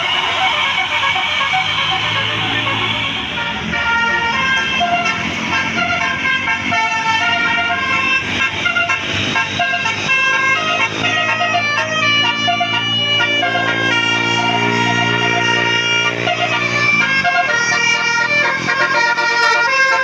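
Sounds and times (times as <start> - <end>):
musical bus horn playing a tune: 0.0 - 20.0.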